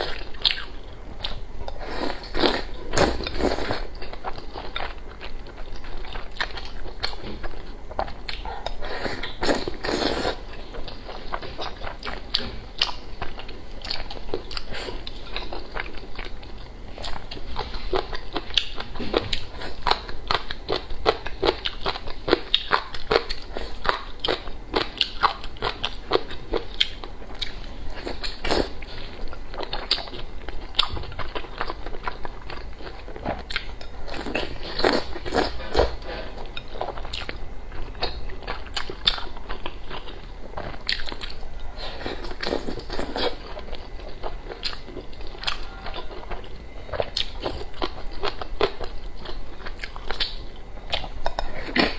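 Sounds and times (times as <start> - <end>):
crunchy chewing: 0.0 - 51.9.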